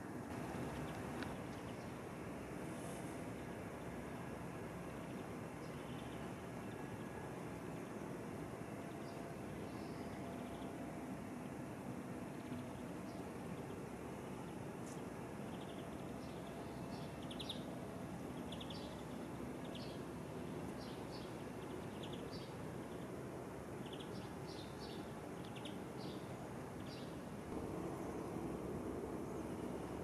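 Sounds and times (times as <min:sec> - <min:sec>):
steady background rumble: 0:00.0 - 0:30.0
small birds chirping: 0:00.3 - 0:02.0, 0:04.9 - 0:11.6, 0:12.2 - 0:30.0.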